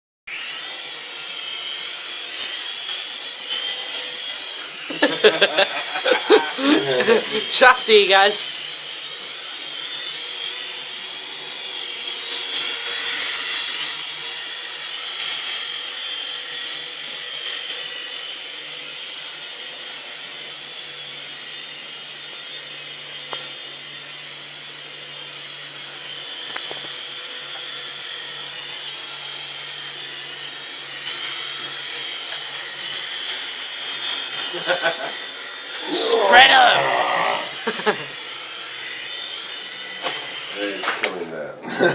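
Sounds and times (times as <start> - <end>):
toy helicopter rotors whining: 0.3 - 41.9.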